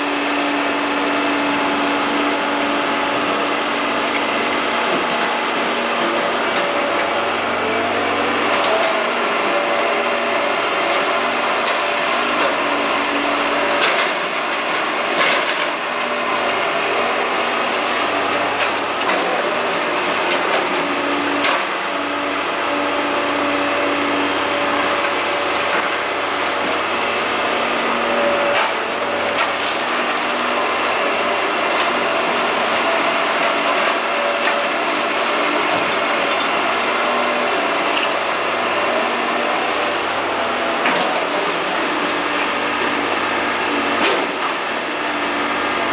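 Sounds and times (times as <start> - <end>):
excavator diesel engine under load: 0.0 - 45.9.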